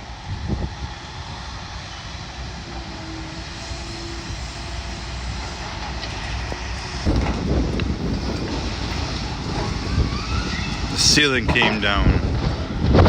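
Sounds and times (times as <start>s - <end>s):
wind buffeting microphone: 0.0s - 13.0s
low engine drone: 0.9s - 13.0s.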